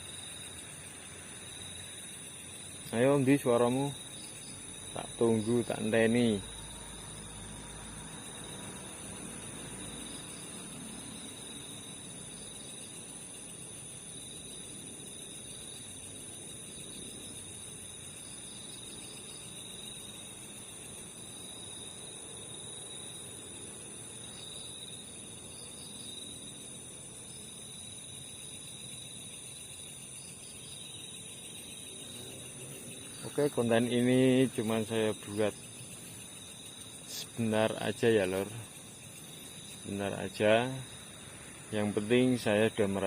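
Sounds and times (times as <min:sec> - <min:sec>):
crickets chirring: 0:00.0 - 0:43.0.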